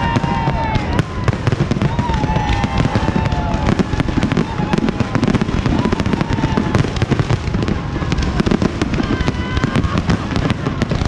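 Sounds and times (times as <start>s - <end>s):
fireworks booms: 0.0s - 11.0s
fireworks crackling: 0.0s - 11.0s.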